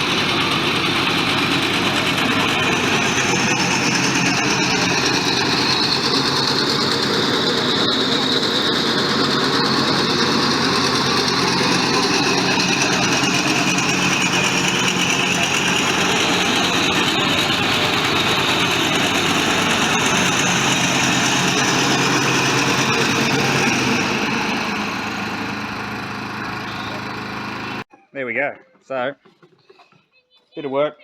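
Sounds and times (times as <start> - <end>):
ride-on mower engine running: 0.0 - 27.9.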